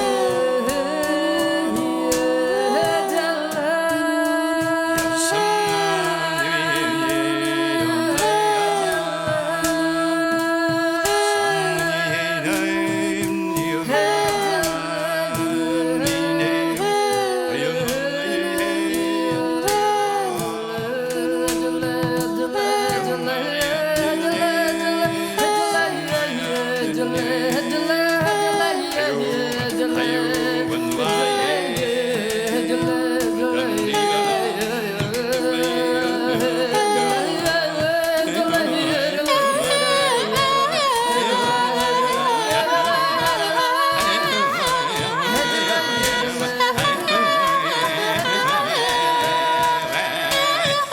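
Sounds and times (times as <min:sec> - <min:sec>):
person singing with sliding notes: 0:00.0 - 0:50.9.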